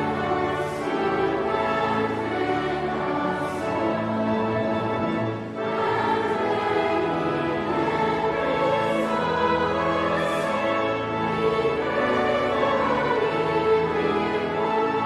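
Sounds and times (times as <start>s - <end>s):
choir singing sustained chords: 0.0s - 15.0s
orchestral strings: 0.0s - 15.0s.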